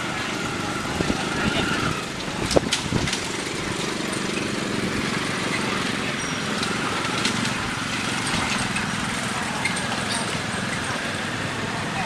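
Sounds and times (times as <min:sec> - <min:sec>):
small engine humming: 0:00.0 - 0:12.0.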